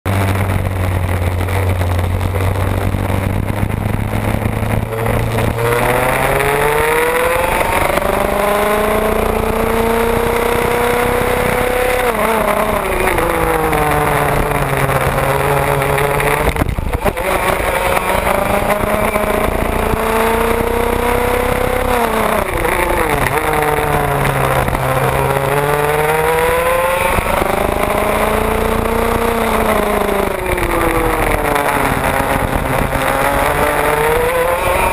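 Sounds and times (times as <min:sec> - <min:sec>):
kart engine revving: 0:00.1 - 0:34.9.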